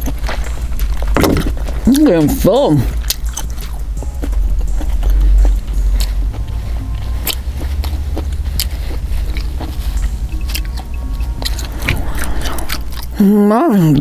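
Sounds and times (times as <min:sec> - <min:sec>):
person chewing food: 0:00.0 - 0:13.2
steady low rumble: 0:00.0 - 0:14.0.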